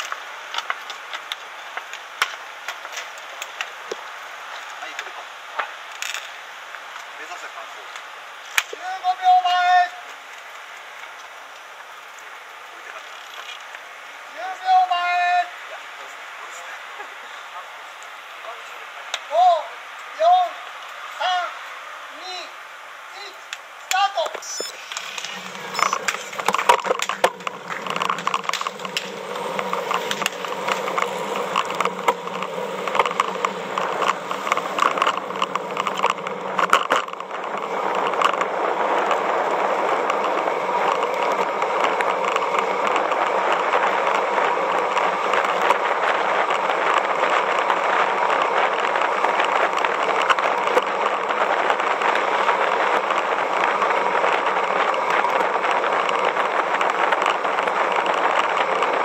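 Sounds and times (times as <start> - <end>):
bike clicking and rattling: 0.0 - 7.2, 7.9 - 8.9, 9.5 - 13.9, 23.5 - 59.0
wind and road noise: 0.0 - 59.0.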